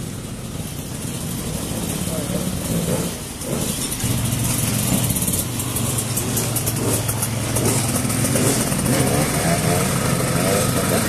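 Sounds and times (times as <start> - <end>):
dirt bike engines idling: 0.0 - 11.0.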